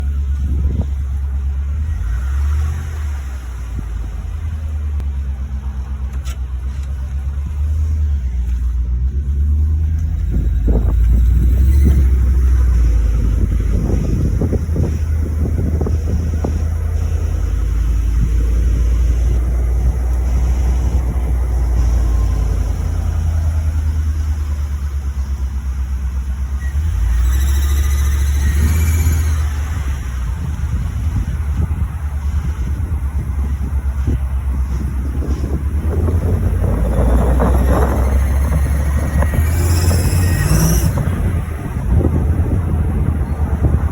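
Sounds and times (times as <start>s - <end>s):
engine running with low drone: 0.0s - 43.9s.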